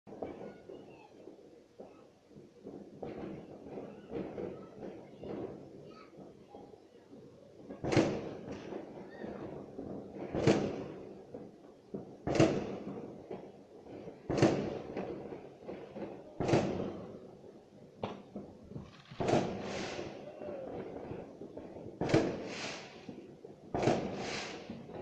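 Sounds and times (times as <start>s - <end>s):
fireworks bangs: 0.1s - 25.0s.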